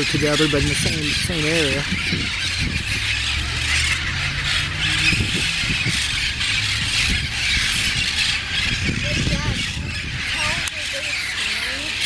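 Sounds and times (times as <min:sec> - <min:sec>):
car engine humming: 0:00.0 - 0:11.1
parrots screeching and squawking: 0:00.0 - 0:12.0.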